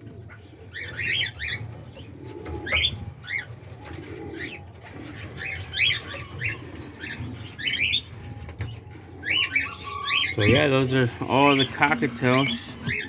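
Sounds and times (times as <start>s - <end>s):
cockatiels chirping: 0.7s - 2.0s, 2.6s - 3.5s, 4.4s - 13.0s.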